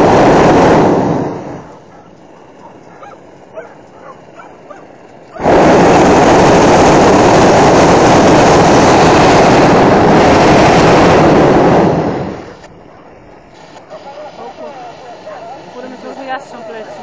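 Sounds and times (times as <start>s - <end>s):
propane burner blast: 0.0s - 17.0s.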